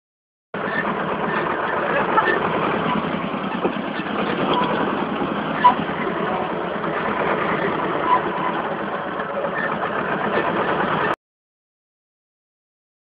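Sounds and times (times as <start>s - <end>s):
tractor diesel engine clattering: 0.6s - 11.2s.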